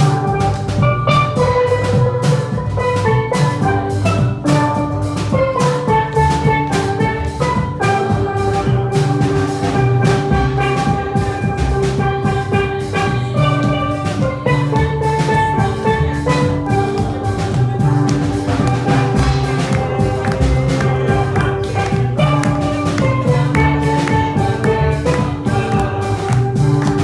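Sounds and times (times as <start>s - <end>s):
band playing upbeat hymn: 0.0s - 27.0s
drums: 0.0s - 27.0s.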